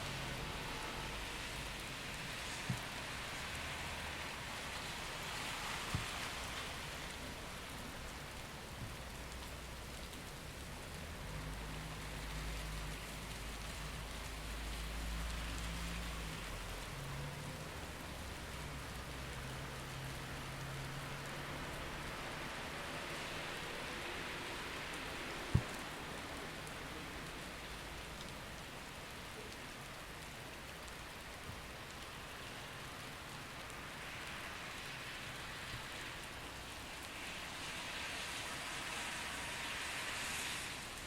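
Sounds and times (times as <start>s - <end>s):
rain on a street: 0.0s - 41.0s.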